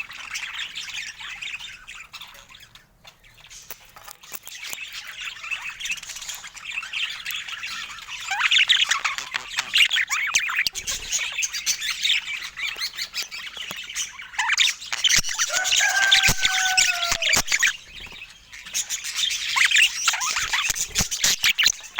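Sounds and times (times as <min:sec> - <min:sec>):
budgerigars chattering: 0:00.0 - 0:21.9.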